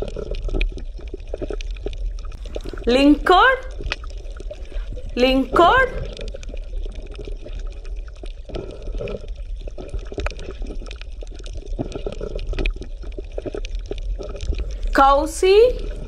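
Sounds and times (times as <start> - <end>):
water bubbling and gurgling: 0.0 - 16.0.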